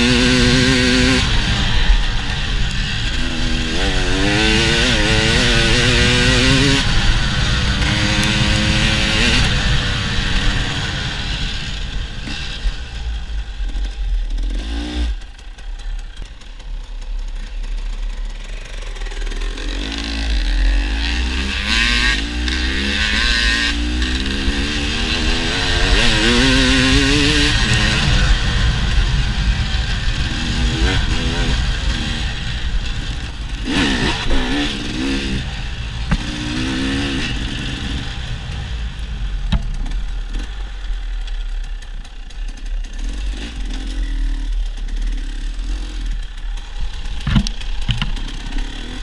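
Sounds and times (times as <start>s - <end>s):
dirt bike engine revving: 0.0s - 49.0s
low rumble: 0.0s - 49.0s.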